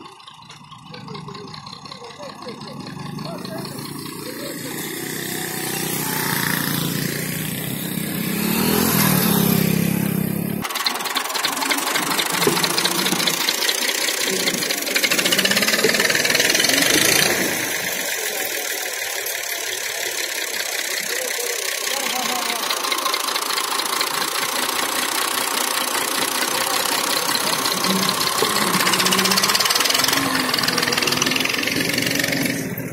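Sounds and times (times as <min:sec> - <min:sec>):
harsh rattling clatter: 0:00.0 - 0:32.9
tractor engine revving: 0:00.0 - 0:32.9.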